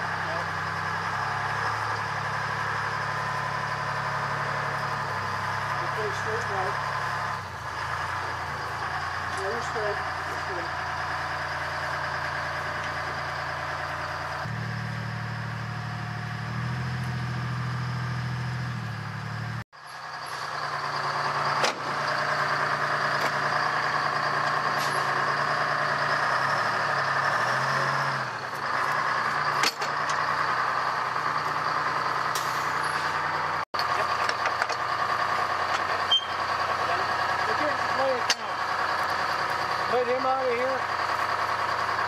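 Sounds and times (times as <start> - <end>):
heavy vehicle engine running: 0.0 - 42.0.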